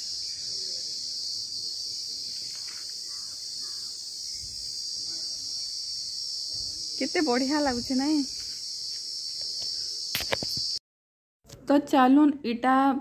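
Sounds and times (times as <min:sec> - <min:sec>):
insects shrilling: 0:00.0 - 0:10.8.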